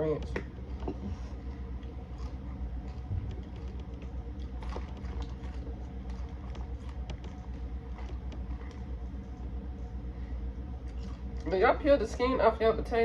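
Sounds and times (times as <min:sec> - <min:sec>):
low hum: 0:00.0 - 0:13.0
person chewing food: 0:00.2 - 0:11.5.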